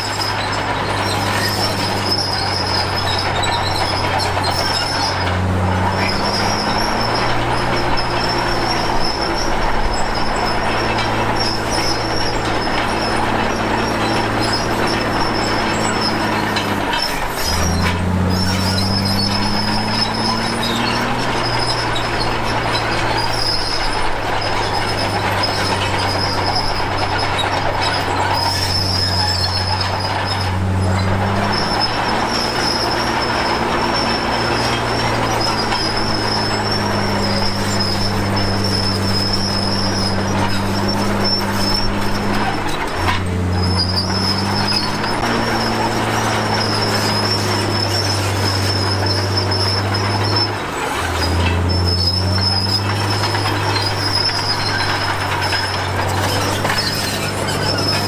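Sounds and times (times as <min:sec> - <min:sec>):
bulldozer diesel engine running: 0:00.0 - 0:58.0
steel tracks squealing: 0:00.0 - 0:58.0.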